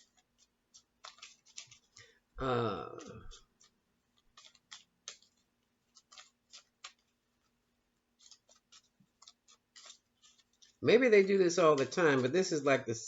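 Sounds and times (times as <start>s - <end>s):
cards being shuffled: 0.0s - 2.2s, 2.8s - 13.0s.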